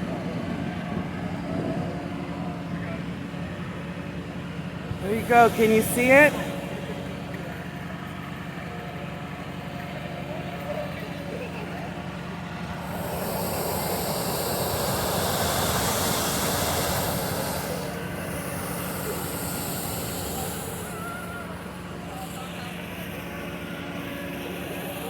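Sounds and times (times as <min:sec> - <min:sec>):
low engine hum: 0:00.0 - 0:25.0
propane burner hissing blasts: 0:03.6 - 0:25.0.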